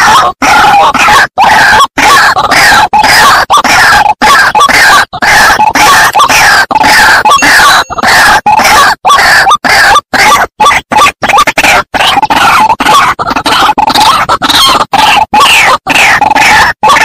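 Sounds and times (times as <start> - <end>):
bird harsh croaking calls: 0.0 - 17.0.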